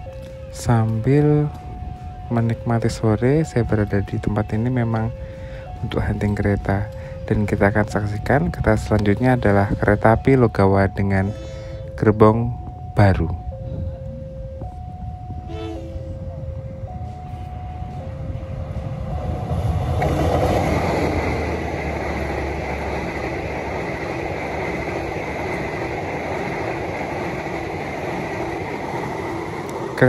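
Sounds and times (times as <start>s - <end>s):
train passing: 0.0s - 30.0s
two-tone crossing alarm: 0.0s - 30.0s.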